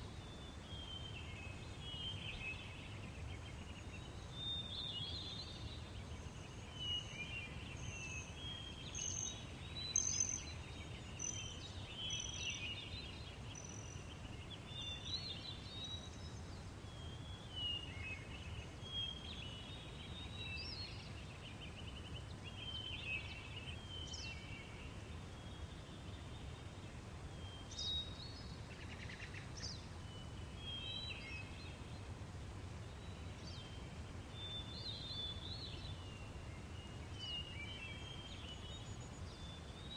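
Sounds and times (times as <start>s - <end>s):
low rumble of breeze: 0.0s - 39.9s.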